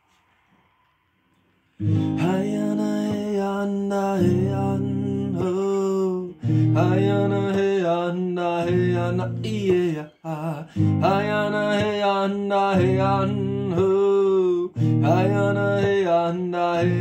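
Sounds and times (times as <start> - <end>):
strummed acoustic guitar: 1.8 - 17.0
man singing wordless chant: 2.1 - 17.0.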